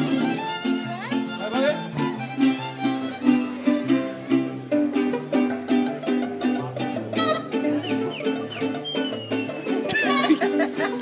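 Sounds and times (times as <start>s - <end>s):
strummed guitars: 0.0s - 11.0s.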